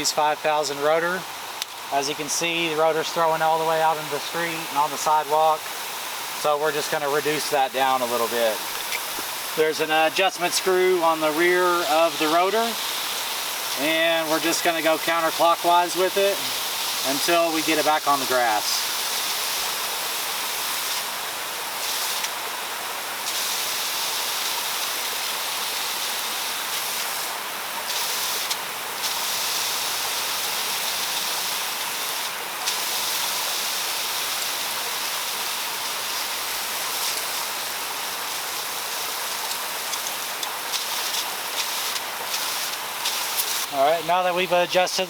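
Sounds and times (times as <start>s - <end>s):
sprinkler spray hissing: 0.0s - 45.0s.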